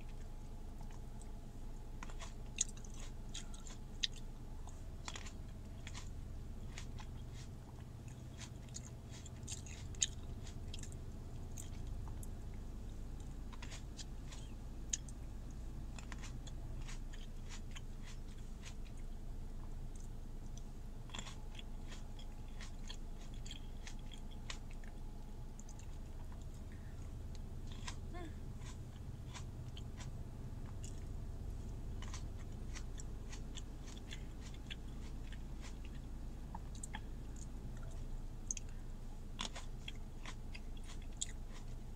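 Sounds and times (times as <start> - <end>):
person chewing grapes: 0.0 - 41.9
steady low hum: 0.0 - 41.9.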